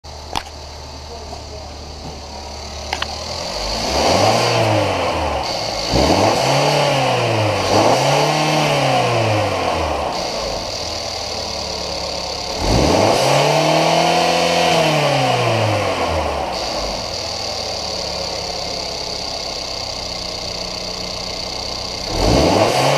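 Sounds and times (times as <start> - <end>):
car engine idling and revving: 0.0 - 22.9.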